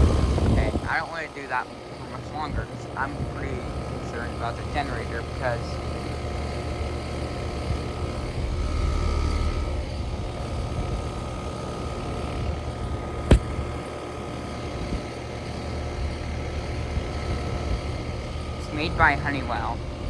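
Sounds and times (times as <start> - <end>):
motor equipment humming: 0.0 - 20.0.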